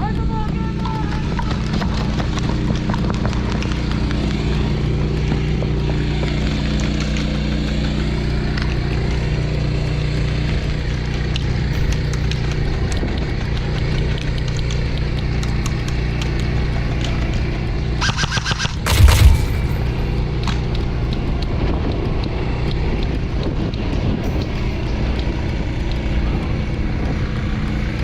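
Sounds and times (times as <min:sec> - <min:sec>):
low engine-like drone: 0:00.0 - 0:28.0.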